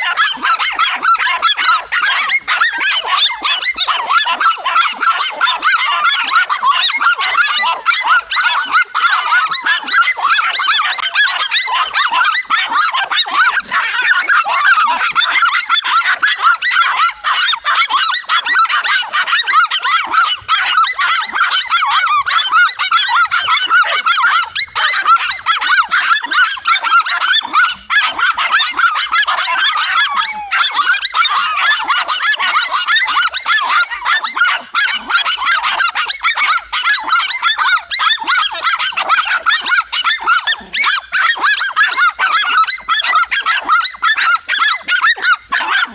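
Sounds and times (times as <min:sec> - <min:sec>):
dogs barking and yapping: 0:00.0 - 0:45.9.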